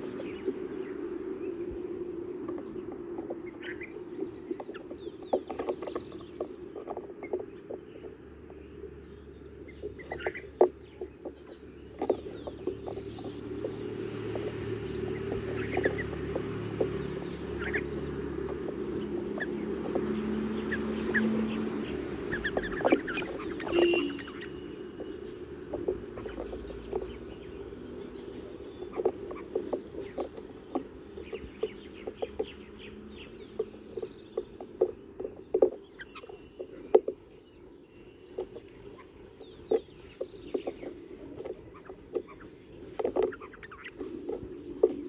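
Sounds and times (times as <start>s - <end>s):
birds chirping: 0.0s - 45.0s
birds pecking on stone: 0.0s - 45.0s.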